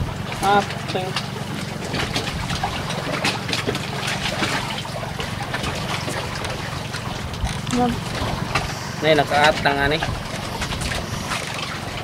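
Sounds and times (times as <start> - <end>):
low hum: 0.0 - 12.0
water trickling and splashing: 0.0 - 12.0.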